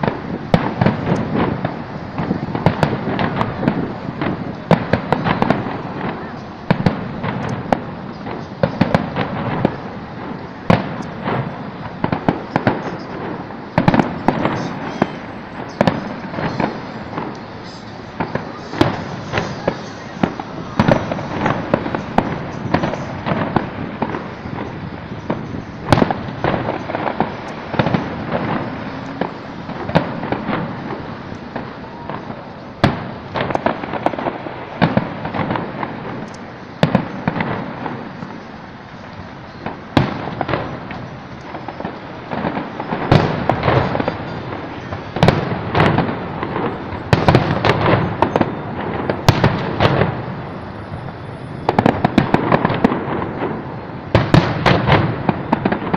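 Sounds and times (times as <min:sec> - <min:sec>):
fireworks bangs and cracks: 0:00.0 - 0:55.9
fireworks crackling: 0:00.0 - 0:55.9.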